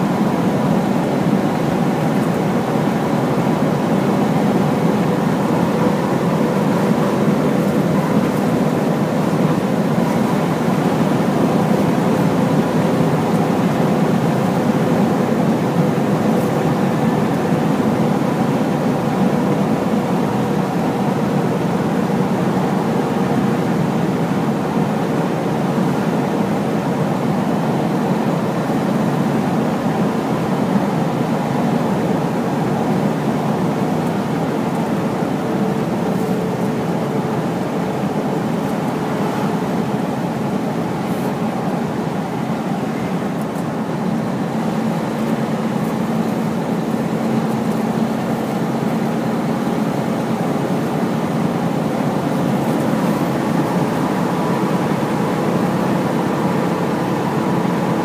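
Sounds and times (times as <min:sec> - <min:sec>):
faint constant whine: 0:00.0 - 0:58.0
truck engine and road noise: 0:00.0 - 0:58.0.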